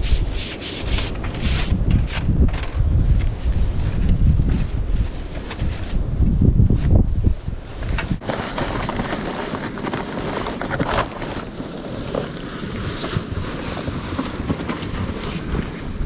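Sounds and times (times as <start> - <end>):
wind buffeting microphone: 0.0 - 9.4, 12.4 - 16.0.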